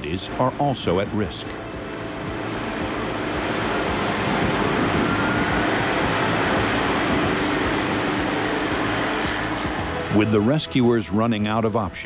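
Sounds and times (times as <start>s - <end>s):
river water rushing over falls: 0.0s - 10.4s.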